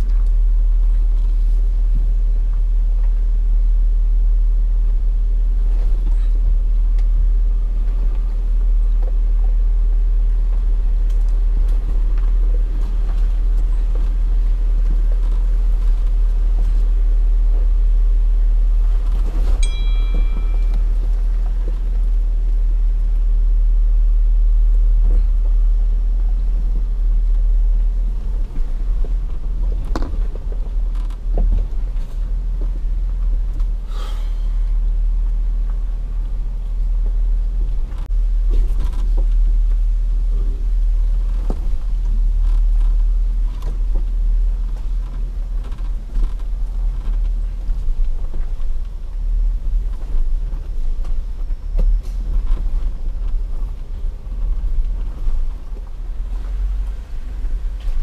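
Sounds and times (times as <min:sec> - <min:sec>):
off-road vehicle rumbling: 0:00.0 - 0:58.0.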